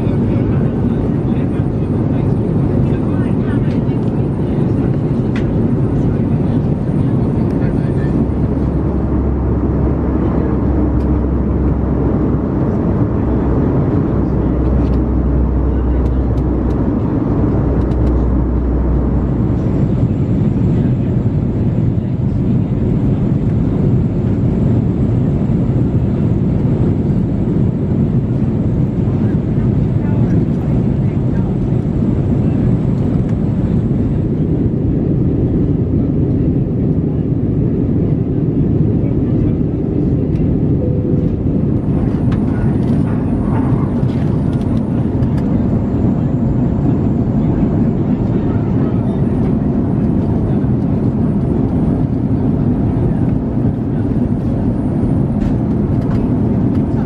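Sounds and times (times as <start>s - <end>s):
airliner cabin engine noise: 0.0s - 57.0s
low hum: 0.0s - 57.0s.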